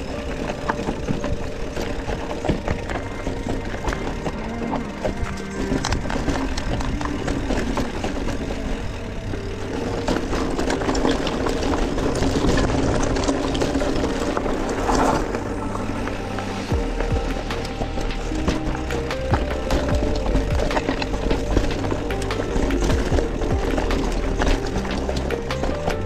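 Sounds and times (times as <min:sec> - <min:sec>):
bike clicks and rattles: 0:00.0 - 0:26.0
electric motor hum: 0:00.0 - 0:26.0.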